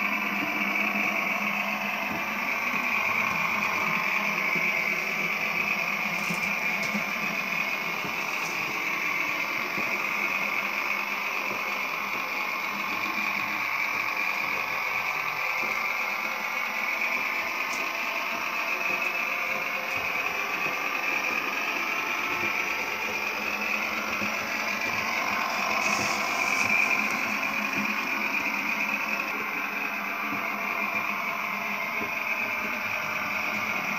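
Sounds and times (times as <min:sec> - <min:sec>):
model railbus engine sound: 0:00.0 - 0:33.9
model train motor whirring: 0:00.0 - 0:33.9.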